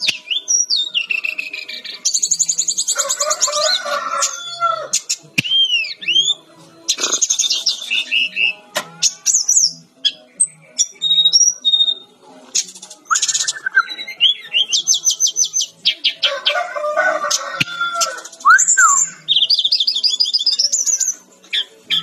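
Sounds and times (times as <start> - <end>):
bird singing: 0.0 - 22.0.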